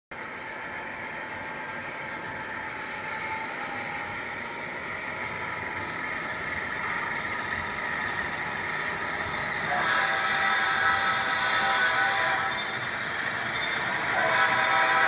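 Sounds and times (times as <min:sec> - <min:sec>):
model diesel locomotive engine running: 0:00.1 - 0:15.0.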